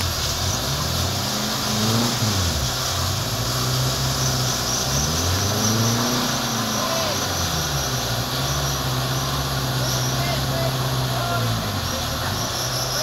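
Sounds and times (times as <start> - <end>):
off-road engine revving: 0.0 - 13.0
wheels spinning in mud: 0.0 - 13.0.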